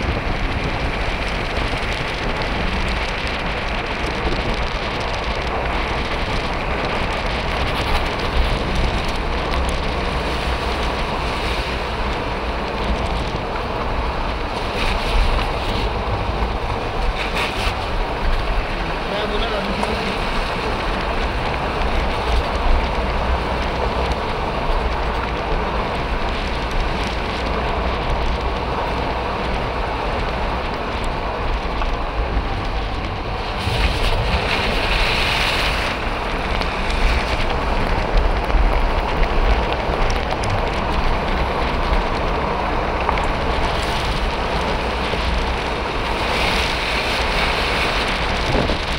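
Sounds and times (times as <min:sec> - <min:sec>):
tyres hissing on road: 0:00.0 - 0:48.9
vehicle road rumble: 0:00.0 - 0:48.9
wind buffeting microphone: 0:00.0 - 0:48.9.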